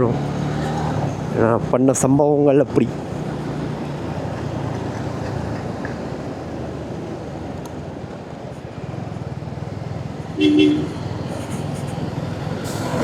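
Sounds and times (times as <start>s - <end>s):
motorcycle engine cruising: 0.0s - 1.8s, 2.7s - 13.0s
road noise: 0.0s - 13.0s.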